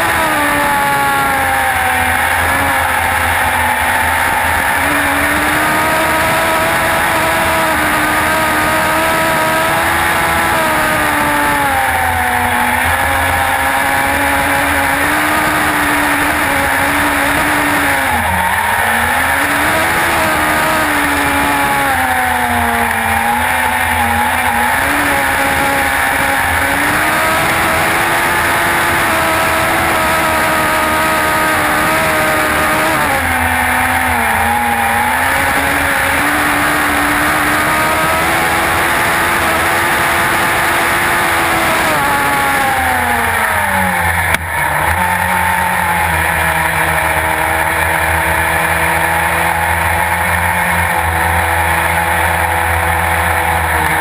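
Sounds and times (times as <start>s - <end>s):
racing car engine at full throttle: 0.0s - 54.0s.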